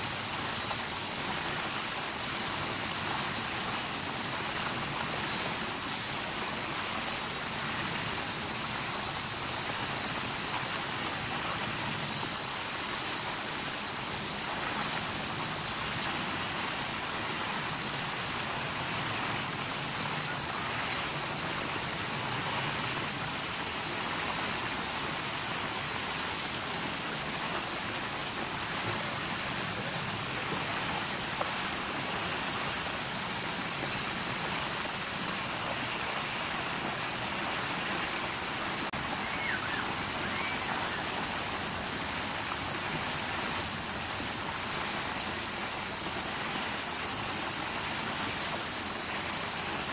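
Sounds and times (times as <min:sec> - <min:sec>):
cicada chorus drone: 0:00.0 - 0:49.9
hiss: 0:00.0 - 0:49.9.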